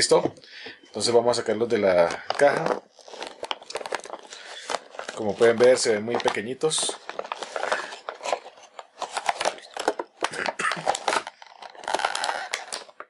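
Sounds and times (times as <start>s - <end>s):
plastic packaging crinkling: 1.2s - 13.0s.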